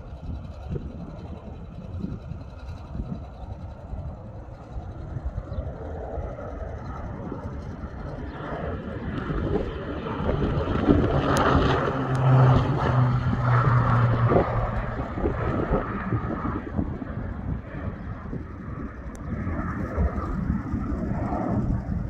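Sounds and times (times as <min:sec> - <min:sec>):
propeller plane flying past: 0:00.0 - 0:22.0.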